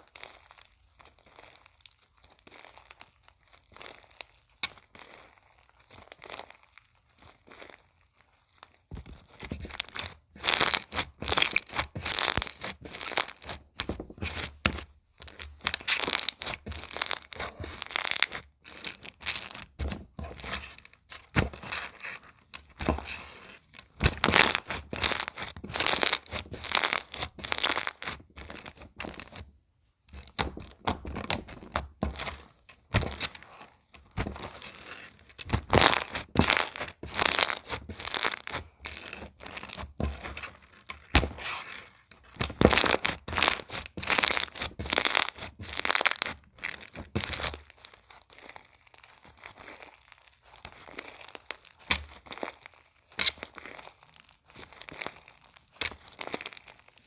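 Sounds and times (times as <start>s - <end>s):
slime squished by hand: 0.0s - 21.8s, 23.8s - 29.4s, 35.4s - 41.8s, 42.4s - 57.0s.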